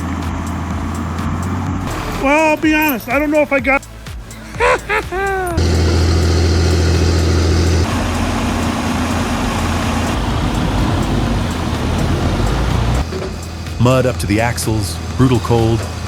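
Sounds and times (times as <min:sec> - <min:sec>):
heavy vehicle engine humming: 0:00.0 - 0:16.0.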